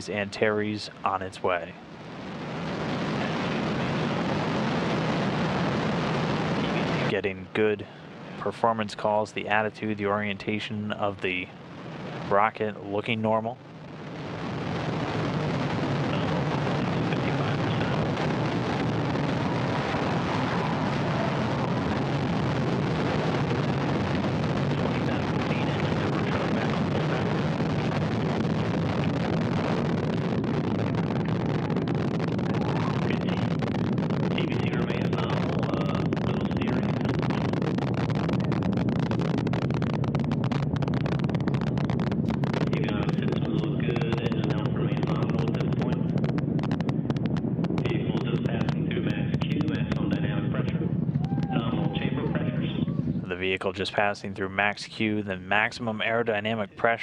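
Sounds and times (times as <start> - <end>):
distant rocket rumble: 0.0 - 57.0.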